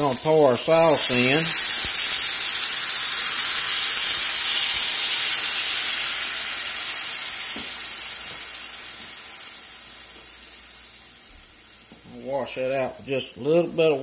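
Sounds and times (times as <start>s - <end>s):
sauce sizzling in hot oil: 0.0s - 13.6s.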